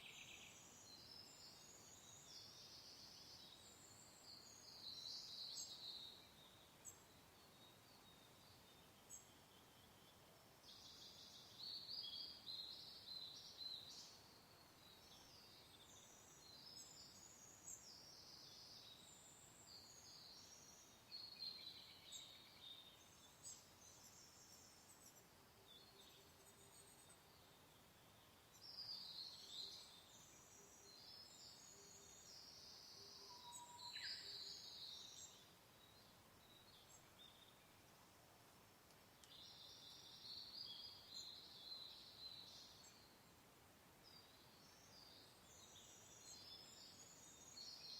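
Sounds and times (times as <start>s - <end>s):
faint birdsong chirps and trills: 0.0s - 47.9s.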